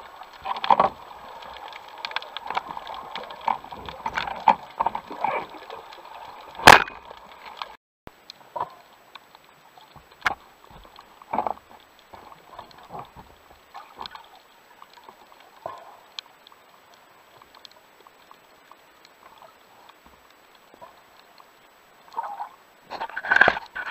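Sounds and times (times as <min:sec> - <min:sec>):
faint underwater wash: 0:00.0 - 0:23.9
underwater clicks: 0:00.2 - 0:23.9.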